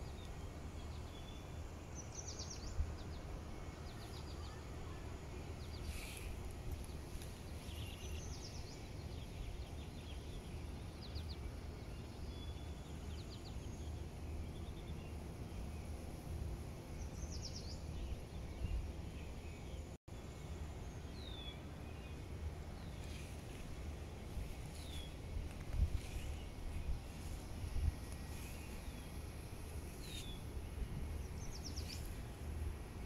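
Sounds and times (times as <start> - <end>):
low outdoor rumble: 0.0 - 33.0
small birds chirping: 0.0 - 33.0.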